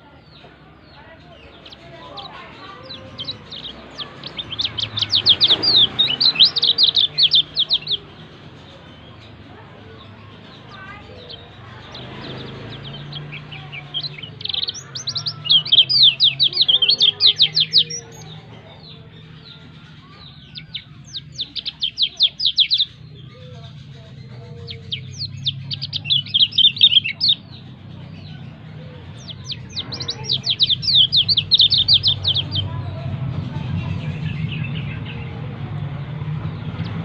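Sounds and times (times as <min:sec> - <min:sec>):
bird chirping rapidly: 0:00.9 - 0:32.8.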